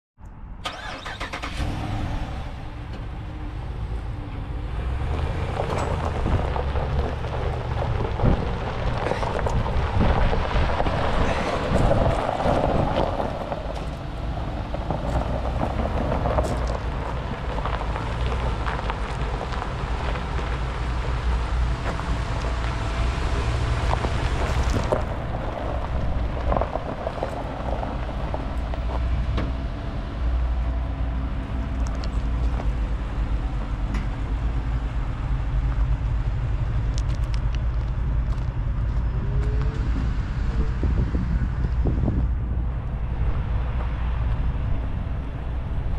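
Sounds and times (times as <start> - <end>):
engine idling hum: 0.2 - 45.9
wind buffeting microphone: 2.7 - 45.9.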